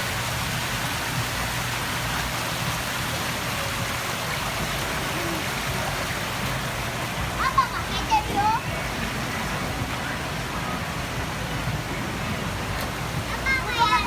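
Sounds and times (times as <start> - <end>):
water rushing down a channel: 0.0 - 14.0.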